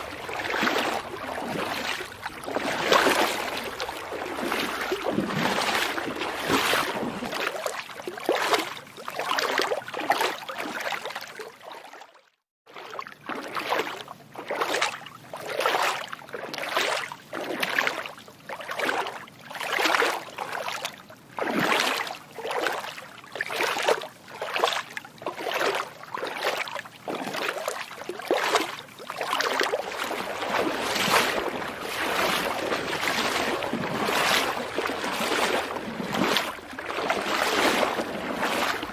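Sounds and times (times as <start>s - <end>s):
footsteps splashing in water: 0.0s - 38.9s.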